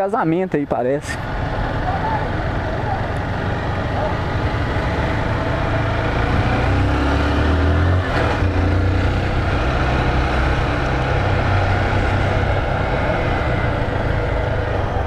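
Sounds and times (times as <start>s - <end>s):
motorcycle engine running: 1.2s - 15.0s.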